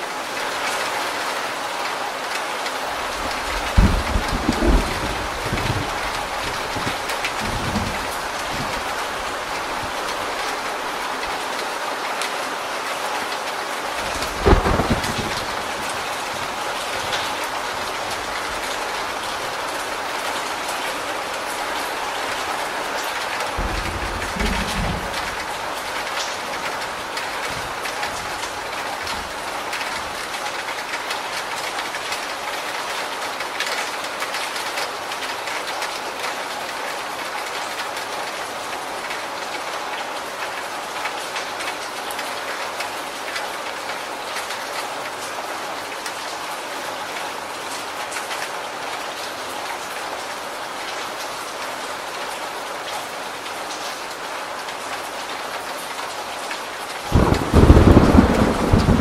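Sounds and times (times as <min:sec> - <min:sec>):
rain pouring off corrugated roof: 0:00.0 - 0:59.0.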